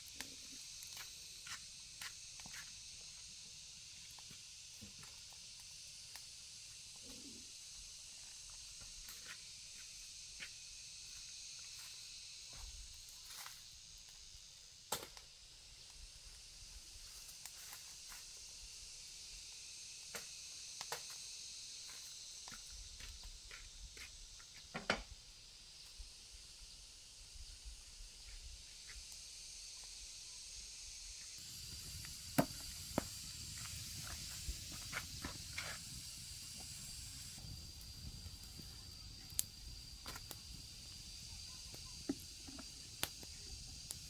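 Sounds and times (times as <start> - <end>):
high insect drone: 0.0 - 44.0.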